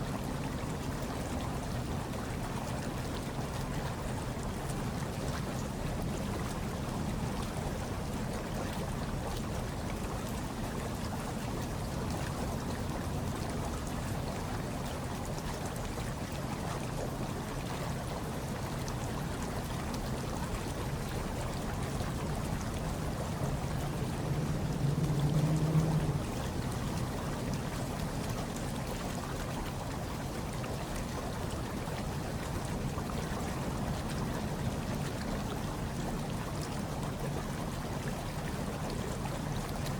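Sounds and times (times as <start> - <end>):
hot tub water bubbling: 0.0 - 39.9.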